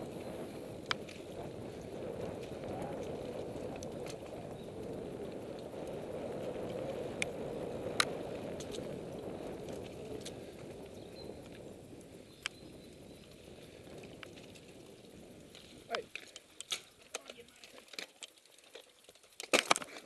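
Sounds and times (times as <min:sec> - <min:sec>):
bike tyres rumbling on dirt: 0:00.0 - 0:17.7.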